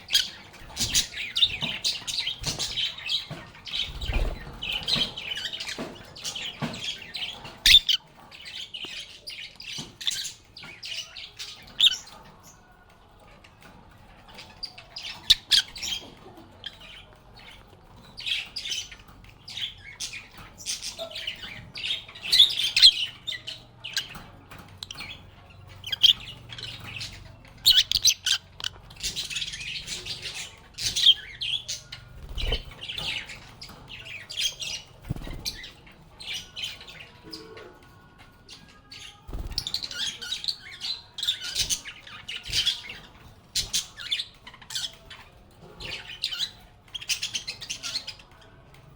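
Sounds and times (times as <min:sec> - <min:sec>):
lovebirds chirping and squawking: 0:00.0 - 0:48.9.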